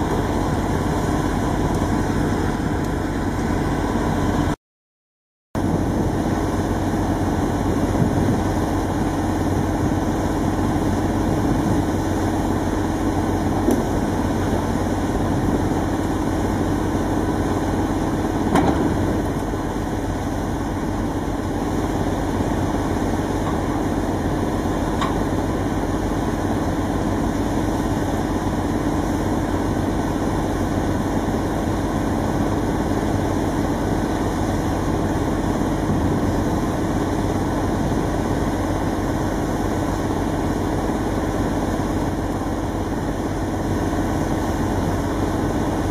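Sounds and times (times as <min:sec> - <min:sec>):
heavy engine running: 0:00.0 - 0:04.6, 0:05.6 - 0:45.9.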